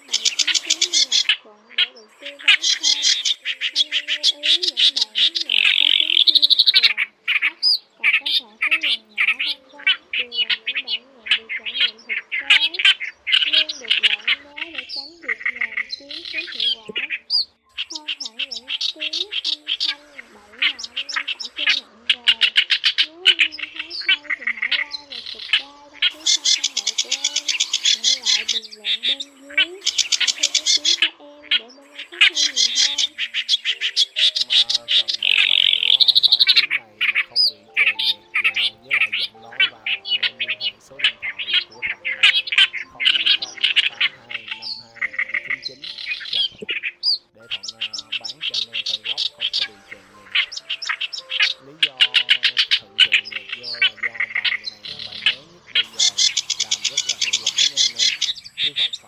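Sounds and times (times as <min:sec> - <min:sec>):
warbler song chattering: 0:00.0 - 0:59.0.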